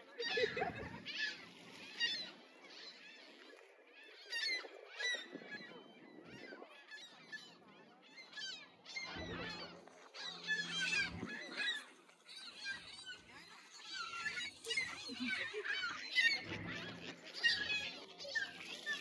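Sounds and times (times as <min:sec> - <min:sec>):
waterbirds calling: 0:00.0 - 0:19.0.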